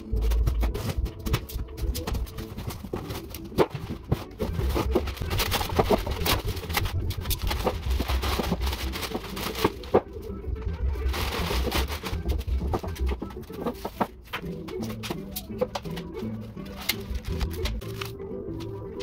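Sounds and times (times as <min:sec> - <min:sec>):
plastic wrapping rustling: 0:00.0 - 0:19.0.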